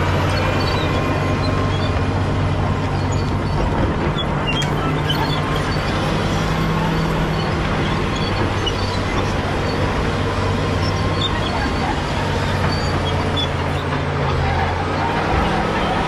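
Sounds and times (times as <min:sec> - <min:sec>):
bulldozer diesel engine droning: 0:00.0 - 0:16.0.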